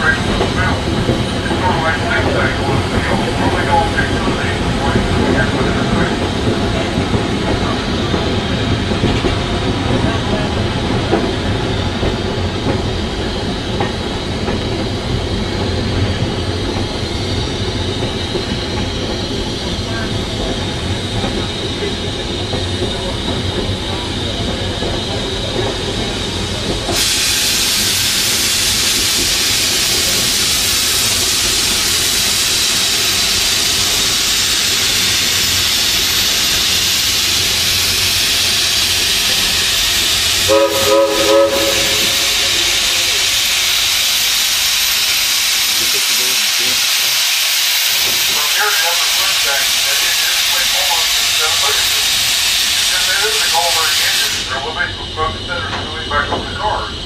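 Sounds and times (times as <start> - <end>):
loud steam hiss: 0.0 - 57.0
train cars rumbling on rails: 0.0 - 57.0.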